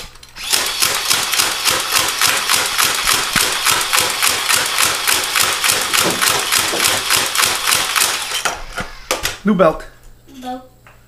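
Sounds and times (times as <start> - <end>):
toy blaster rapid firing: 0.4 - 9.4.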